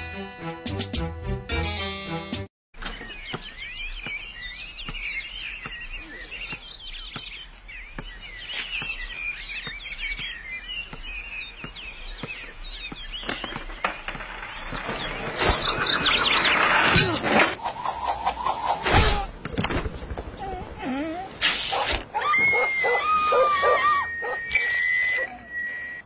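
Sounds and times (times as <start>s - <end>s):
birds chirping: 2.8s - 19.6s, 21.7s - 26.0s.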